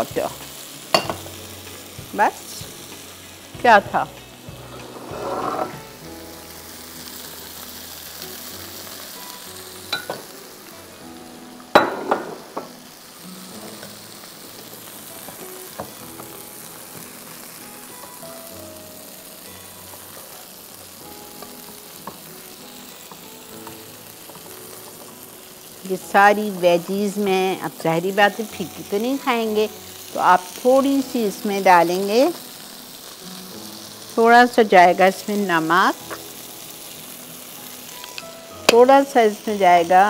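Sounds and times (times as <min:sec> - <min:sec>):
food sizzling in pans: 0:00.0 - 0:40.0.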